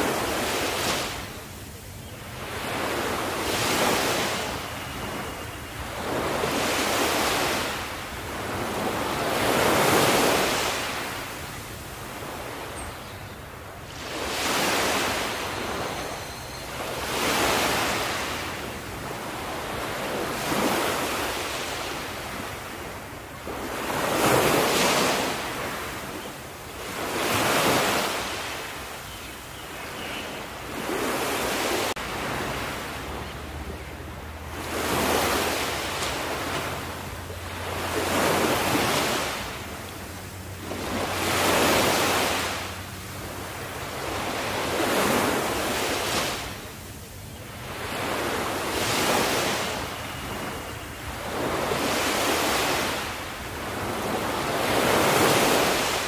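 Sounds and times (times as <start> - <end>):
small waves washing onto beach: 0.0 - 56.0.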